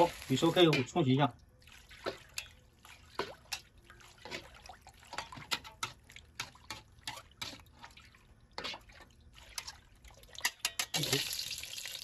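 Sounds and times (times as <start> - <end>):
water splashing and dripping: 0.0 - 12.0.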